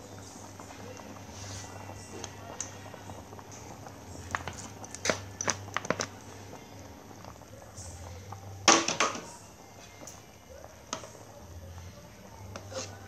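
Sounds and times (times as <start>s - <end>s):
gas stove hum: 0.0s - 13.0s
soup bubbling: 0.0s - 13.0s.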